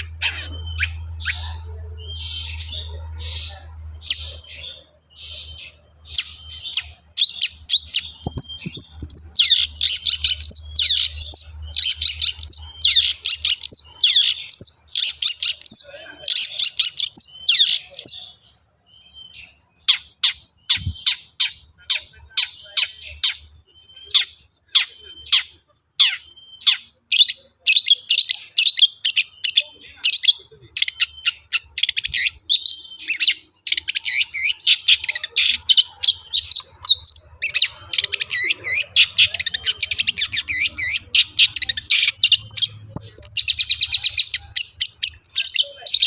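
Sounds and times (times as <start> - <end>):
shrike singing harsh chatter: 0.0 - 46.0.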